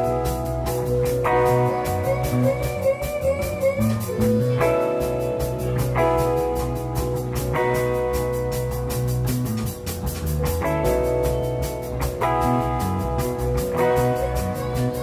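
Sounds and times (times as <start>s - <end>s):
drum kit beat: 0.0s - 15.0s
electric guitar chords: 0.0s - 15.0s.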